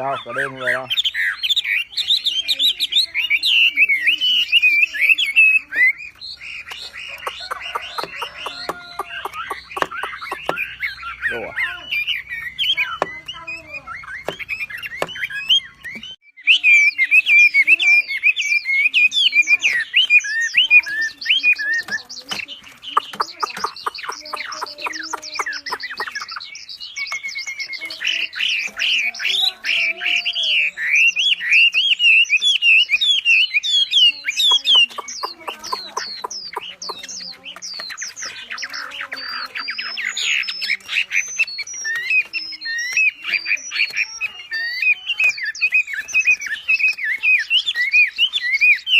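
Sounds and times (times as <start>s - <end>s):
songbird chattering song: 0.0s - 48.9s.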